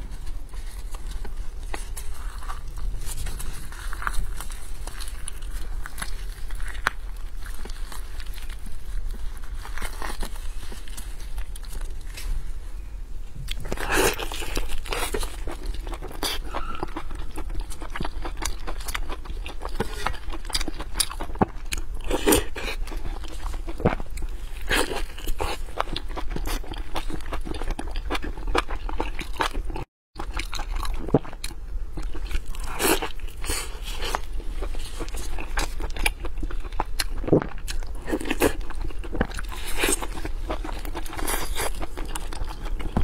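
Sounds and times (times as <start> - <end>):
wet chewing and biting: 0.0 - 12.2, 13.4 - 43.0.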